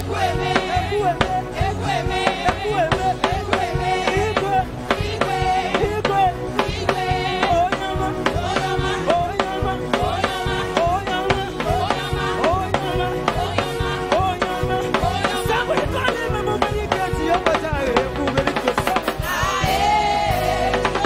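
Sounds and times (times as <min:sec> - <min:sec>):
live worship band music: 0:00.0 - 0:21.0
people singing into microphones: 0:00.0 - 0:21.0
drum beat: 0:00.1 - 0:21.0.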